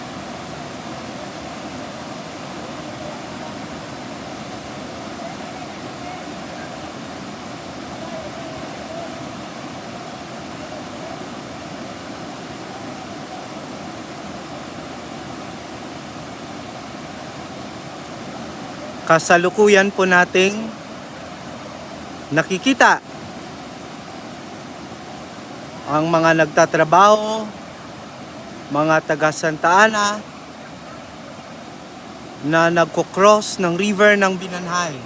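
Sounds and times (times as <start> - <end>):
flooded river rushing: 0.0 - 35.0.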